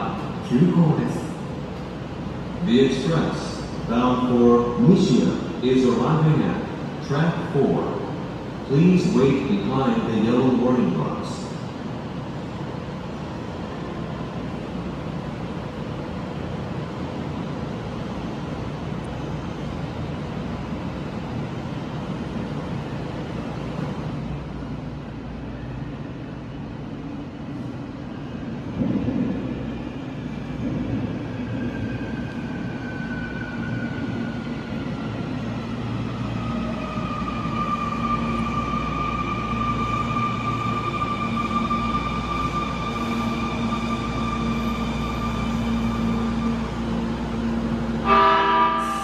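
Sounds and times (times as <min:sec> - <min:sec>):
subway train low rumble: 0:00.0 - 0:49.0.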